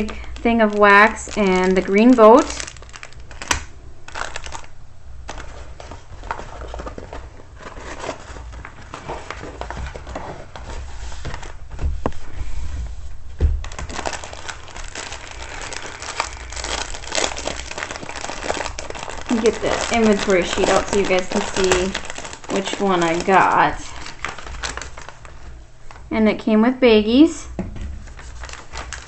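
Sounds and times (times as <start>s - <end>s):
plastic packaging crinkling: 0.0s - 11.6s, 13.6s - 26.1s, 28.0s - 29.0s.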